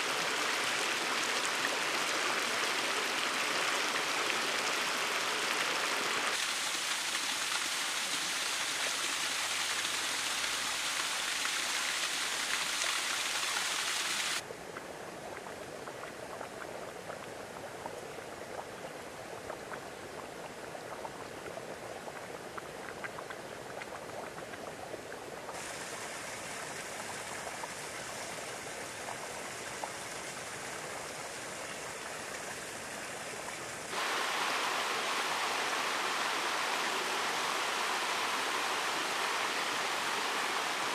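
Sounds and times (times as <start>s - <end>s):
water splashing over rocks: 0.0s - 18.5s, 22.4s - 40.9s.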